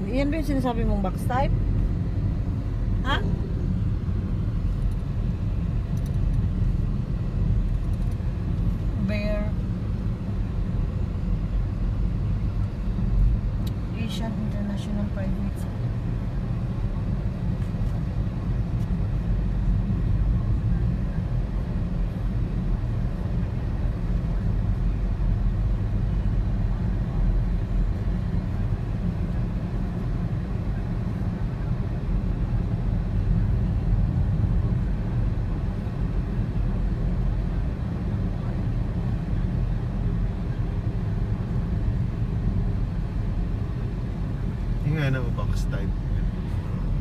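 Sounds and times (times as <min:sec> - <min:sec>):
car engine rumble: 0:00.0 - 0:47.0
road noise: 0:00.0 - 0:47.0.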